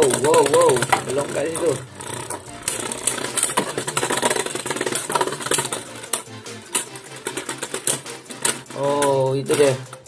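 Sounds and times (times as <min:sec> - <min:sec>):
spinning tops whirring and clashing: 0:00.0 - 0:10.0.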